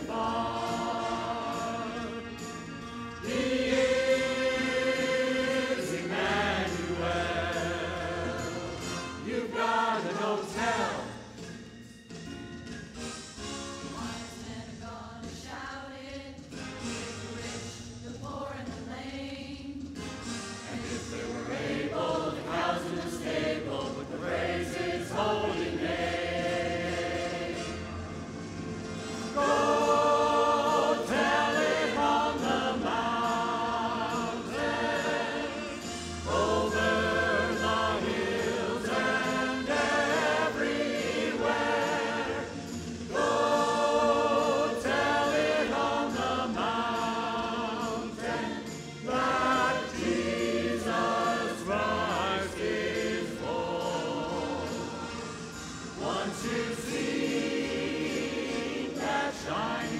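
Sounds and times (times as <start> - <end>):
mixed choir singing: 0.0 - 11.6, 13.9 - 59.9.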